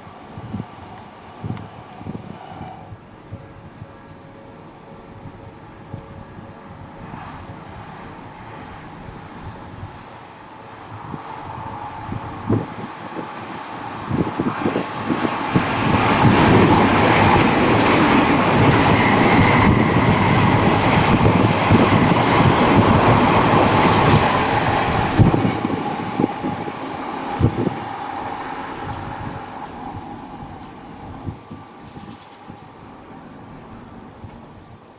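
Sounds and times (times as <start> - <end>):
electric train passing: 0.0 - 34.9
wheels rumbling on rails: 0.0 - 34.9.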